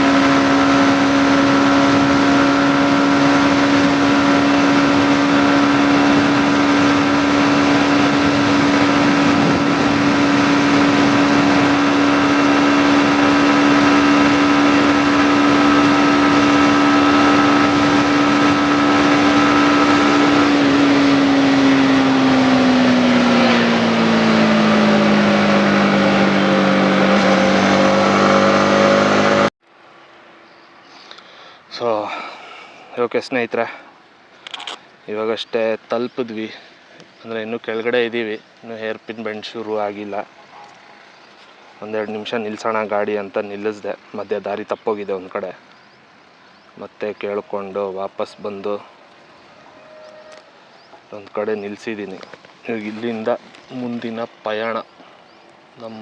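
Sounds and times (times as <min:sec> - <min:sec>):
motorcycle engine cruising: 0:00.0 - 0:29.6, 0:34.1 - 0:56.0.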